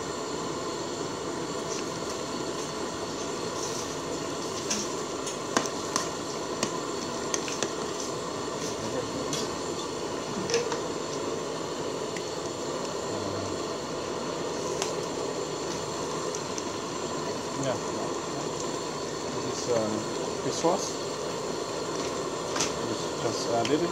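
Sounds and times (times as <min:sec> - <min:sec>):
curry simmering: 0:00.7 - 0:23.9.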